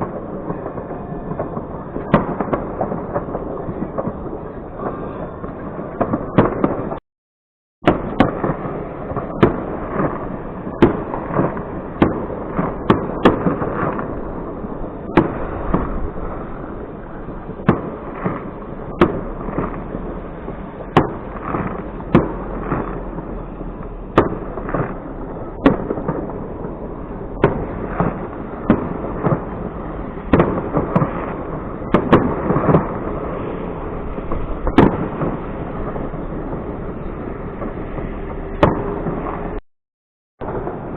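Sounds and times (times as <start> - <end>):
fireworks bangs: 0.0 - 7.0, 7.8 - 39.6, 40.4 - 40.9
fireworks crackle: 0.0 - 7.0, 7.8 - 39.6, 40.4 - 40.9.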